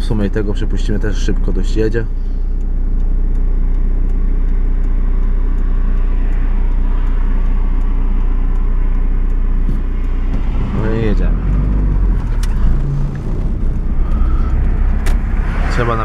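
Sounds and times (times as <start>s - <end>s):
car engine idling: 0.0s - 16.0s
passing traffic rushing: 0.0s - 16.0s.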